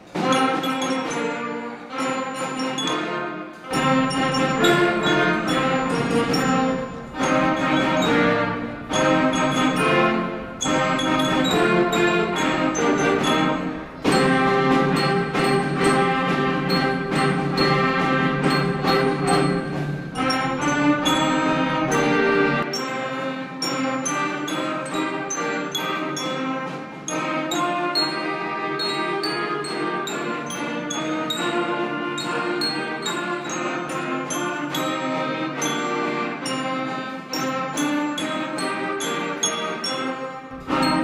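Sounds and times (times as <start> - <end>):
concert band playing: 0.0 - 41.0
percussion strikes: 0.0 - 41.0.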